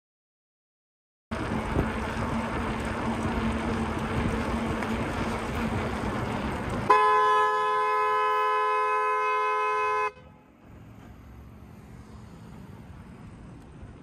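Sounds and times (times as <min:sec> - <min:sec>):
car road and engine noise: 0:01.3 - 0:14.0.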